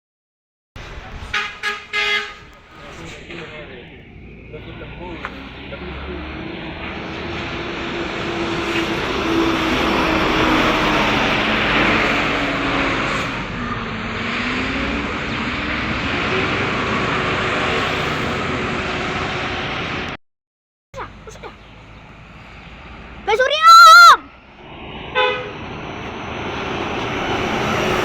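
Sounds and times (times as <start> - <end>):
bus engine driving past: 0.8 - 20.2, 21.0 - 23.5, 24.2 - 28.0
road noise: 0.8 - 20.2, 21.0 - 28.0.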